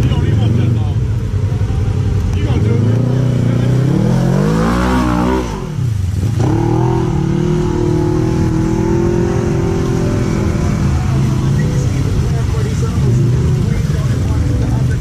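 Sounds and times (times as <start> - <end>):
vehicle driving through water: 0.0 - 15.0
engine revving: 1.7 - 15.0.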